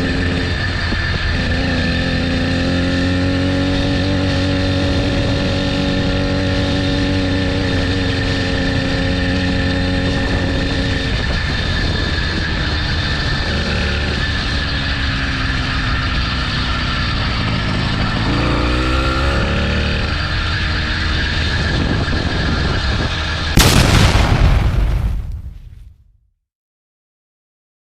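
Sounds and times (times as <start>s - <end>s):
small motorbike engine running: 0.0s - 23.6s.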